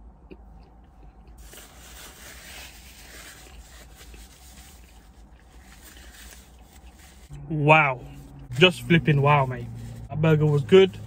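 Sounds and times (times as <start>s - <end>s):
paper napkin rustling against beard: 1.4s - 7.4s, 8.1s - 11.0s.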